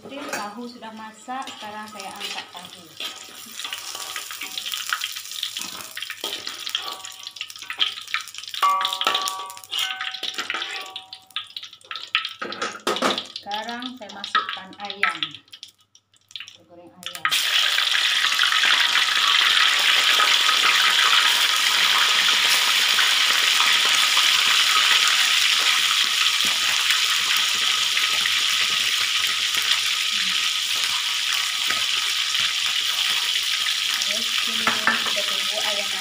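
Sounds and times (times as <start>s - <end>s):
chicken sizzling in hot oil: 0.6s - 15.7s, 16.3s - 36.0s.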